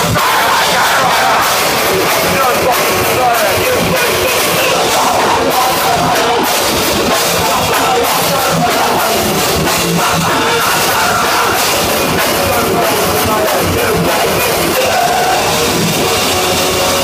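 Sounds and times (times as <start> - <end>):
grindcore band playing: 0.0 - 17.0.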